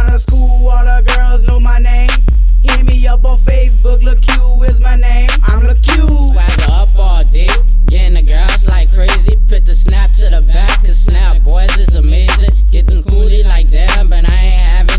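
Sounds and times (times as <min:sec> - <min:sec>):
hip hop music with heavy bass: 0:00.0 - 0:14.9
rapping over a beat: 0:00.0 - 0:14.9.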